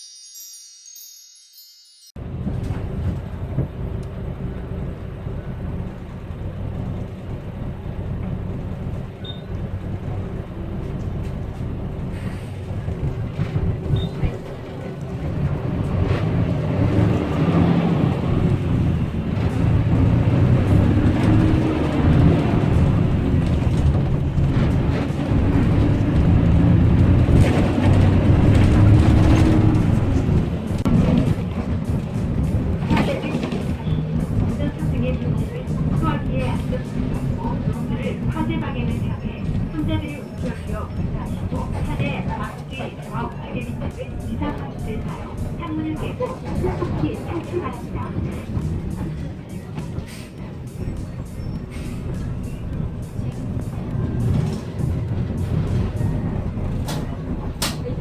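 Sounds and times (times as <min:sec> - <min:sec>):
subway train rumbling: 0:02.2 - 0:58.0.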